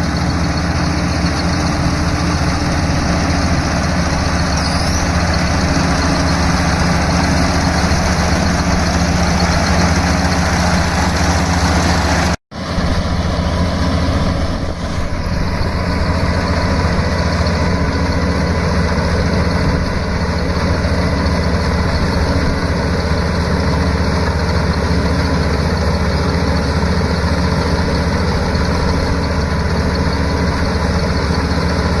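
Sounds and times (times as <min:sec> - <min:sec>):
harvester engine humming: 0:00.0 - 0:32.0.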